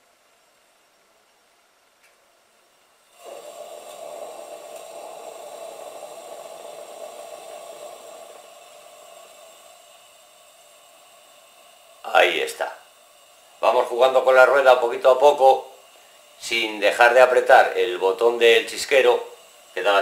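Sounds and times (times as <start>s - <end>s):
lantern burner hissing: 0.0s - 20.0s.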